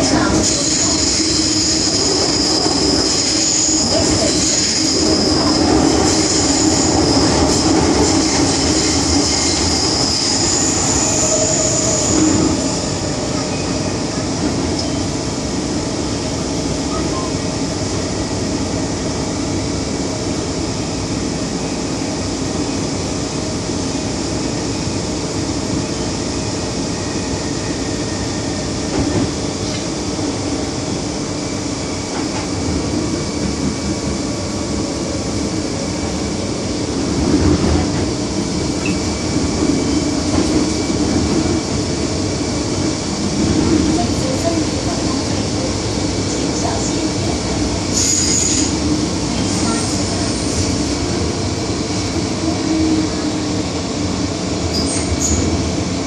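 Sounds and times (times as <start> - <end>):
train running hum: 0.0 - 56.0
train wheels rumbling on rail: 0.0 - 56.0.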